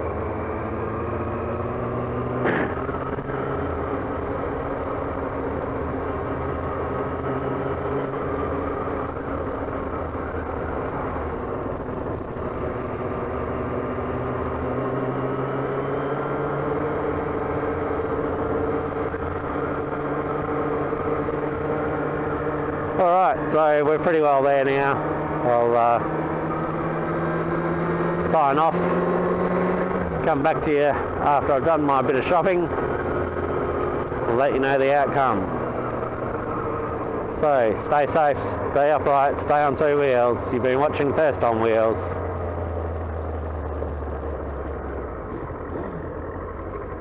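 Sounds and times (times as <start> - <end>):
motorcycle engine cruising: 0.0 - 47.0.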